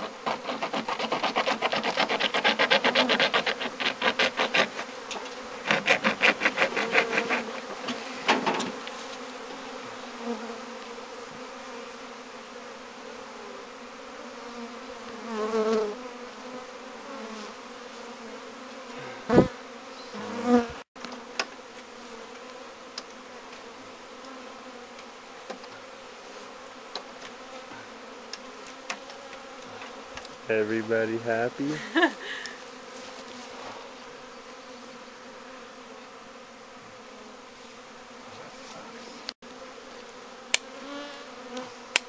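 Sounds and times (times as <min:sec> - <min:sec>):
honeybees buzzing: 0:00.0 - 0:42.0.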